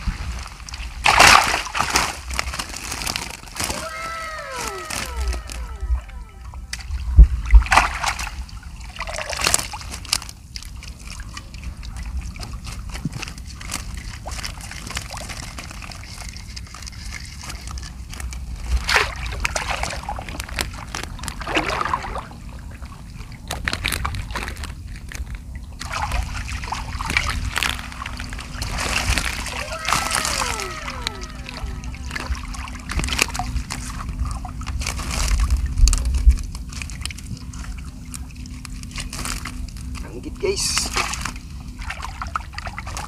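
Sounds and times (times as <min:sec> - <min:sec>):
water sloshing and splashing: 0:00.0 - 0:43.0
steady low rumble: 0:02.1 - 0:43.0.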